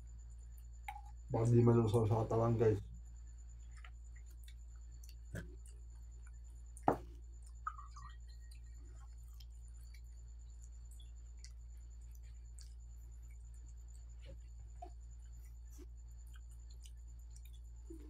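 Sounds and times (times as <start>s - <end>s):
steady low hum: 0.0s - 18.0s
eating by hand: 3.4s - 18.0s.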